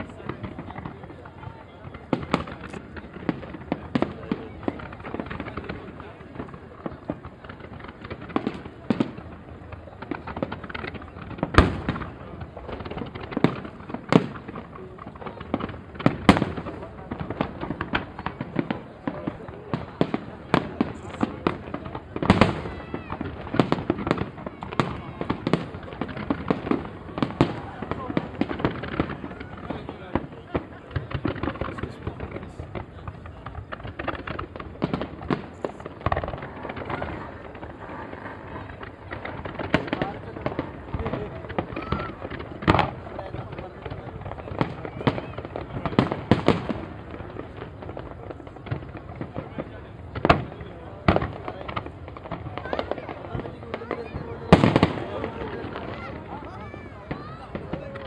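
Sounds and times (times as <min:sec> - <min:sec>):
fireworks booms: 0:00.0 - 0:58.0
fireworks crackling and popping: 0:00.0 - 0:58.0.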